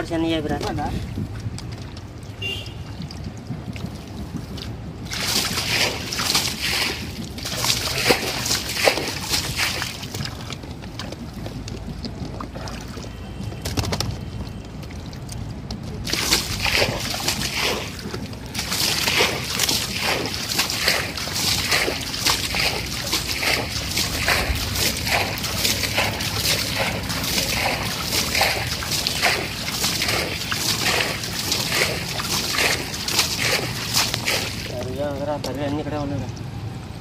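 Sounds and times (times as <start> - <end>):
water splashing and sloshing: 0.0 - 37.0.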